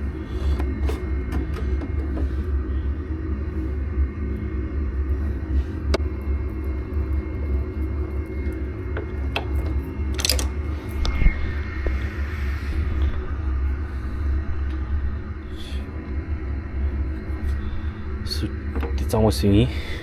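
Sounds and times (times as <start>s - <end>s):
machinery rumbling: 0.0s - 20.0s.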